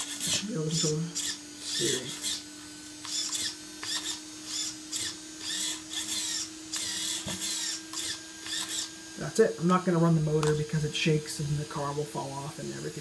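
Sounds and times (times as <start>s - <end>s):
servo whirring: 0.0s - 12.0s.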